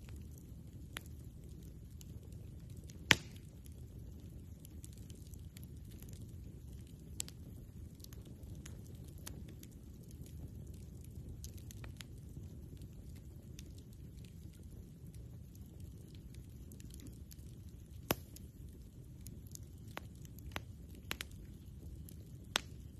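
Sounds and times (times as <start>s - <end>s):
campfire crackling: 0.0s - 22.9s
low fire rumble: 0.0s - 22.9s.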